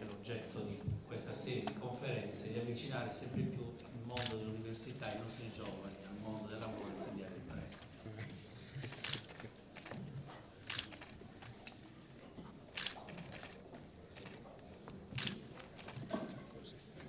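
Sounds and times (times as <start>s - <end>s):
faint room murmur: 0.0s - 17.0s.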